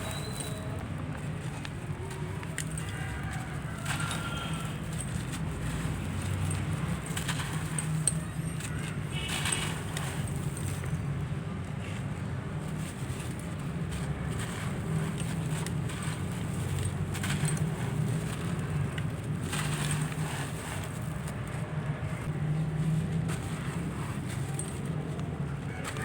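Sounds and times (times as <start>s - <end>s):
blocks crumbling and crunching: 0.0s - 26.0s.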